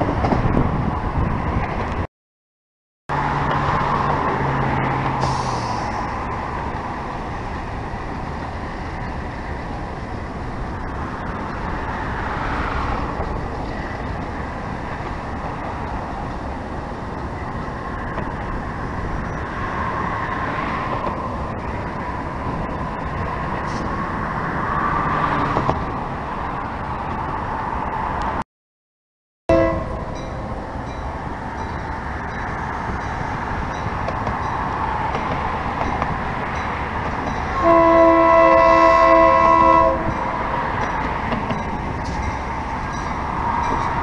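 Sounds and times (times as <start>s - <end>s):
passenger train rumbling: 0.0s - 2.1s, 3.1s - 28.4s, 29.5s - 44.0s
passing road traffic: 3.1s - 28.4s, 29.5s - 44.0s.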